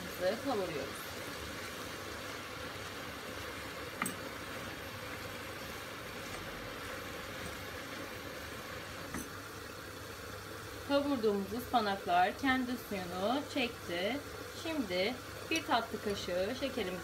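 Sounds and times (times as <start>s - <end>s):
spinach sauteing in a pot: 0.0s - 17.0s.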